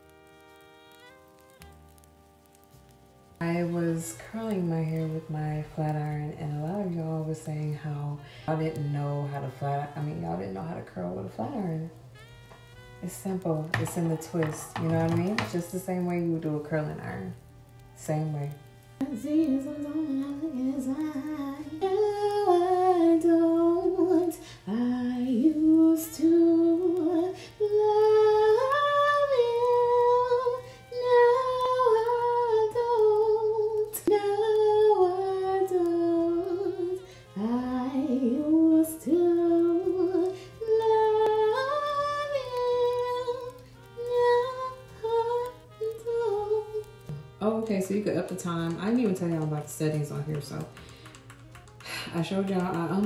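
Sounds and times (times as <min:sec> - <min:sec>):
woman singing unaccompanied: 0:03.4 - 0:53.0.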